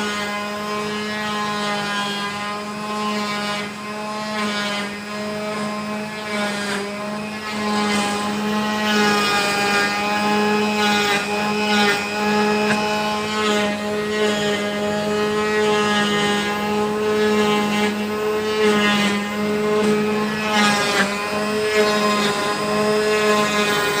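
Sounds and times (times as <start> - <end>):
router bit cutting wood: 0.0 - 24.0
router spindle whining: 0.0 - 24.0.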